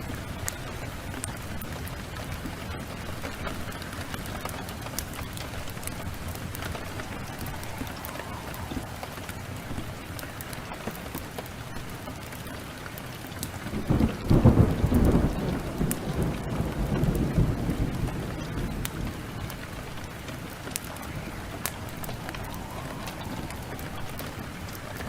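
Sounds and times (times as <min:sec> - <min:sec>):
thunder rolling: 0:00.0 - 0:11.1, 0:13.7 - 0:25.0
heavy rain falling: 0:00.0 - 0:25.0
wood fire crackling: 0:00.0 - 0:25.0.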